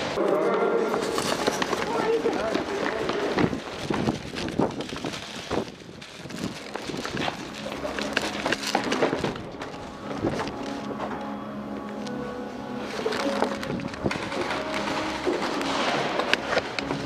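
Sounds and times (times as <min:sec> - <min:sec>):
footsteps and rattling gear: 0:00.8 - 0:12.1, 0:12.8 - 0:17.0.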